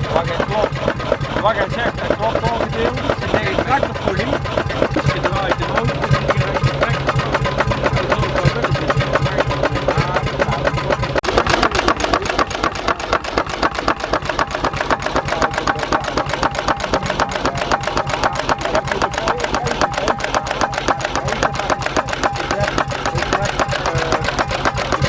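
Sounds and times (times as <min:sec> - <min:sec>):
engine knocking beat: 0:00.0 - 0:25.0
steady low hum: 0:00.0 - 0:25.0.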